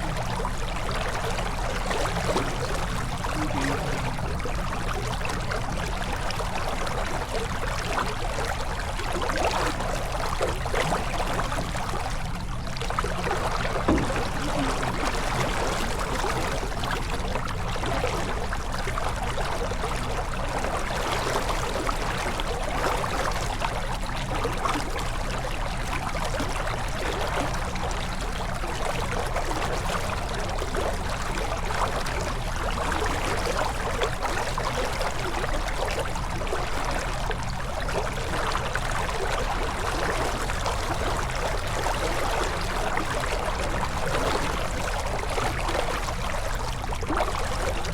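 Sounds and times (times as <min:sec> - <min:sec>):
water splashing along a hull: 0:00.0 - 0:47.9.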